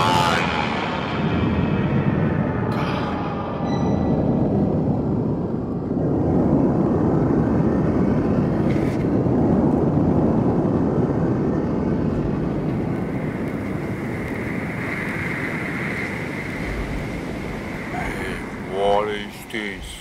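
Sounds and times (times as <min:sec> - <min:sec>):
steady low rumbling: 0:00.0 - 0:20.0.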